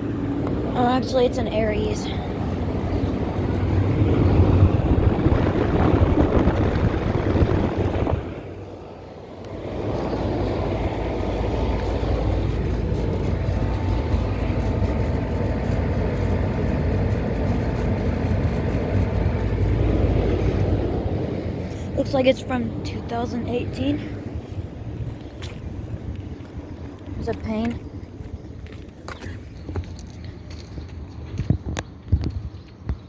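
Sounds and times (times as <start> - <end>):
low compressor hum: 0.0 - 27.0
air conditioner fan rush: 0.0 - 33.0.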